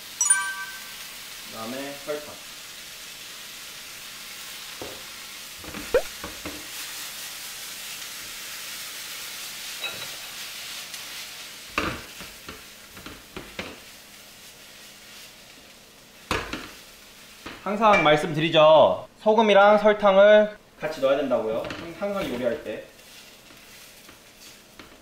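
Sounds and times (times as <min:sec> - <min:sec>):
onions sizzling in frying pan: 0:00.9 - 0:18.5, 0:20.9 - 0:25.0.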